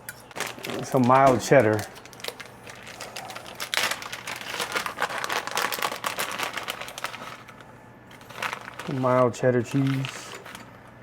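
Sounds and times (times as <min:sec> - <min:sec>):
plastic packaging crinkling: 0:00.2 - 0:10.8.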